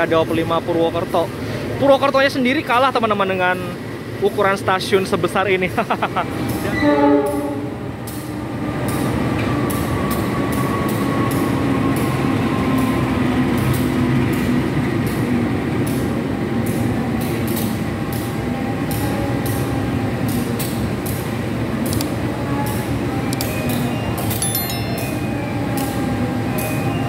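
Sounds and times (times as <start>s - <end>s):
train rumbling with faint whine: 0.0s - 27.0s.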